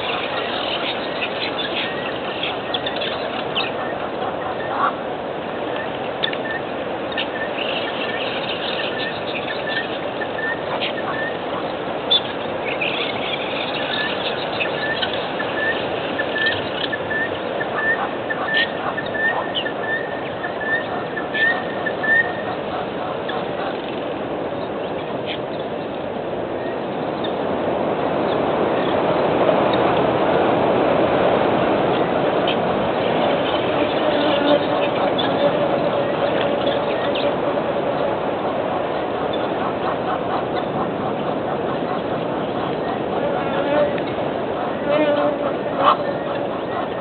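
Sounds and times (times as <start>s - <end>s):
birds chirping and calling: 0.0s - 27.6s, 31.2s - 47.0s.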